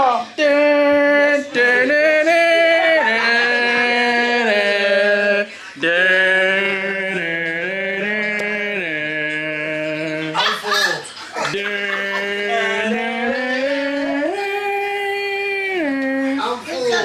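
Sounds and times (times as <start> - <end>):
man singing long held notes: 0.0 - 10.4, 11.5 - 16.4.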